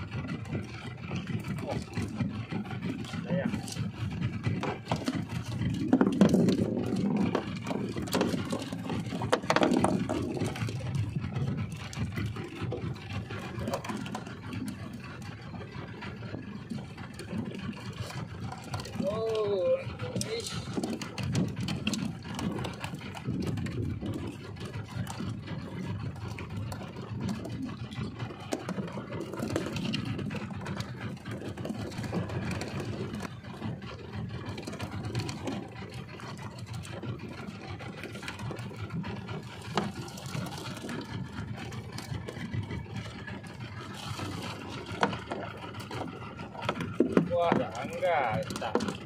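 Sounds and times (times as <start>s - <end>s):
outboard motor running: 0.0s - 49.0s.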